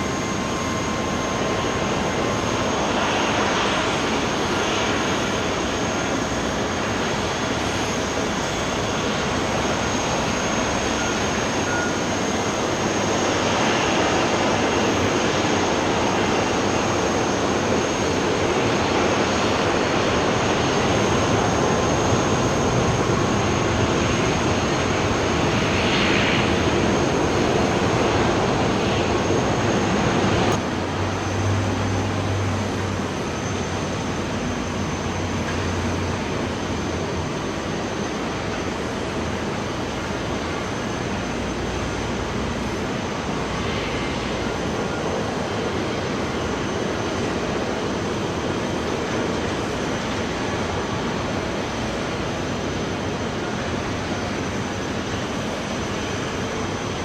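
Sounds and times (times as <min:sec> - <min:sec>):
jet airliner engines roaring: 0:00.0 - 0:57.0.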